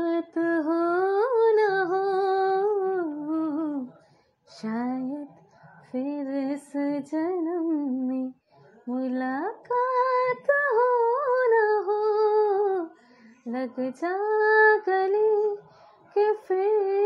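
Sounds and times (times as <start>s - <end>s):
woman singing wordless melody: 0.0s - 3.9s, 4.6s - 12.9s, 13.5s - 15.6s, 16.2s - 17.0s.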